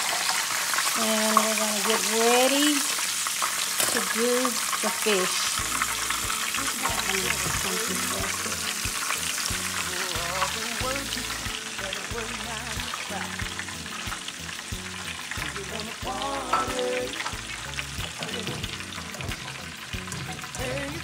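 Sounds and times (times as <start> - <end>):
oil sizzling in deep fryer: 0.0 - 21.0
song playing in background: 3.8 - 21.0.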